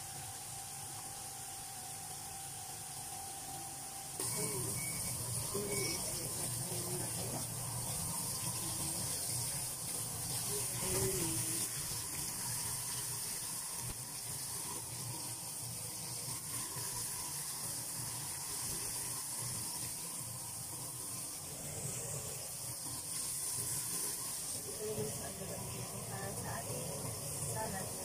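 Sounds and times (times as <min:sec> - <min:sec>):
fish deep-frying in oil: 0:00.0 - 0:28.0.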